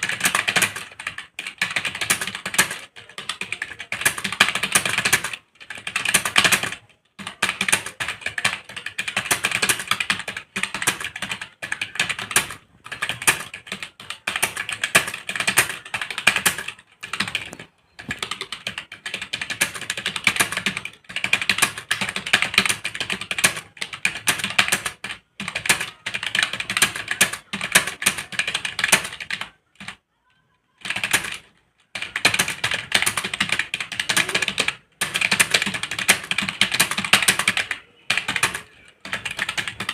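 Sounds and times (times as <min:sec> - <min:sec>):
fast typing on computer keyboard: 0:00.0 - 0:30.0, 0:30.8 - 0:39.9.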